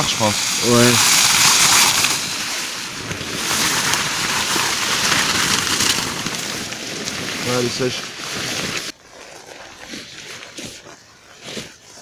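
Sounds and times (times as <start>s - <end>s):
tarp rustling: 0.0s - 12.0s.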